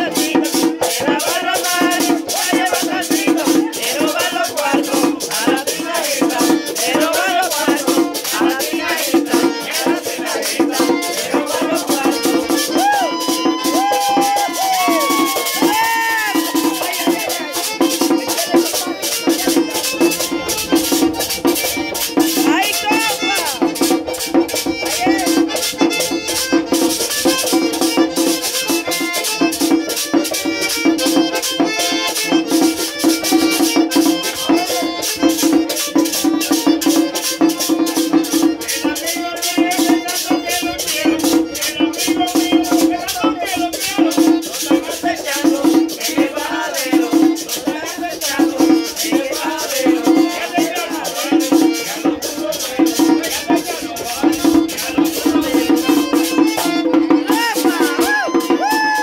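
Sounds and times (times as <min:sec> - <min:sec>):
button accordion melody: 0:00.0 - 0:59.0
guira scraped in fast rhythm: 0:00.0 - 0:59.0
tambora drum: 0:00.0 - 0:59.0.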